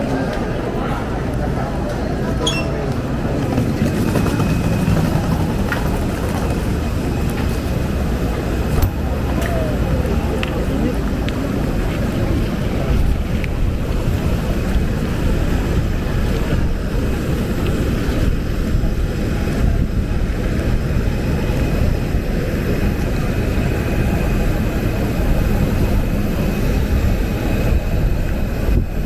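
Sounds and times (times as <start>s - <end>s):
aircraft engine rumble: 0.0s - 29.0s.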